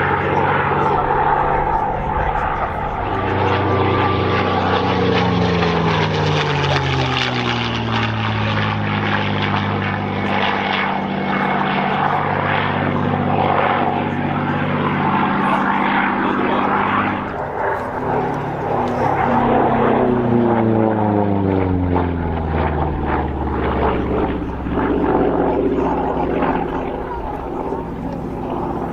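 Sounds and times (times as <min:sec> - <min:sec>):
propeller plane engine passing: 0:00.0 - 0:28.9.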